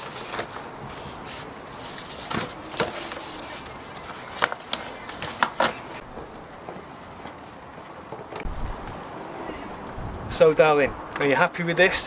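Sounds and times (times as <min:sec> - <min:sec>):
vinyl sheets crackling: 0:00.0 - 0:11.3.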